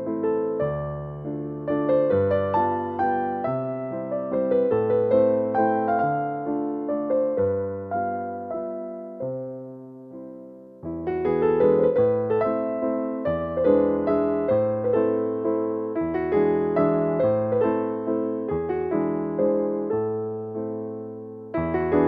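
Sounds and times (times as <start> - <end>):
calm piano music: 0.0 - 22.0.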